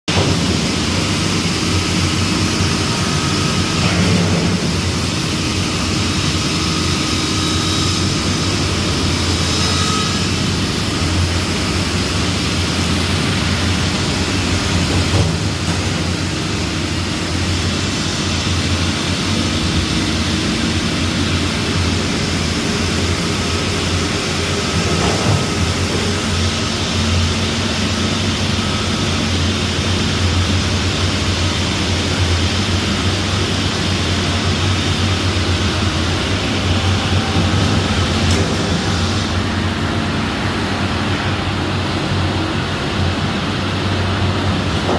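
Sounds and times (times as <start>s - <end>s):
heavy engine droning: 0.1s - 44.9s.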